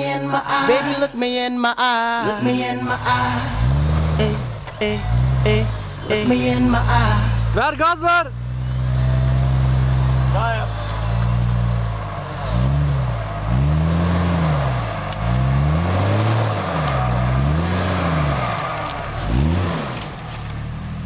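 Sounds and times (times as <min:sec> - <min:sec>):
car engine revving hard: 0:02.2 - 0:21.0.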